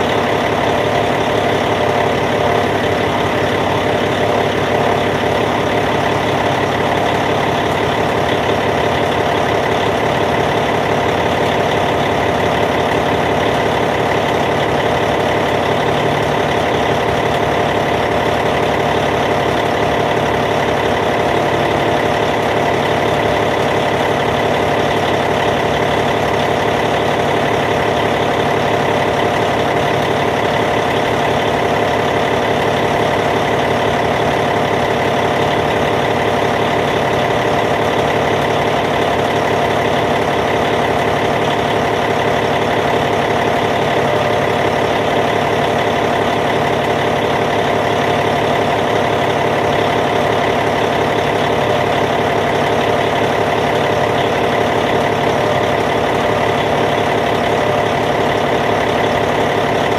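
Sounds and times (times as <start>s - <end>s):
bulldozer diesel engine idling: 0.0s - 59.9s.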